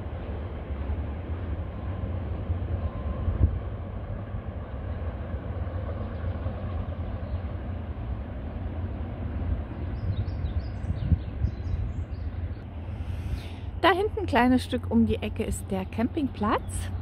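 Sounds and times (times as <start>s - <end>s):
wind buffeting microphone: 0.0s - 7.6s, 8.6s - 17.0s.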